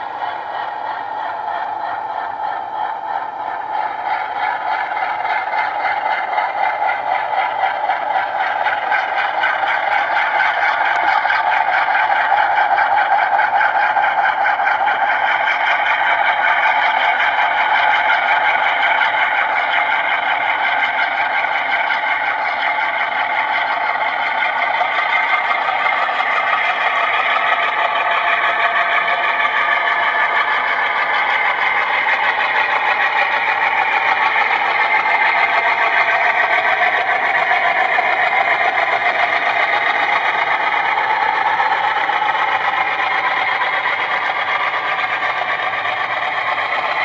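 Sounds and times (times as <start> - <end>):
diesel engine sound from small speaker: 0.0 - 47.0.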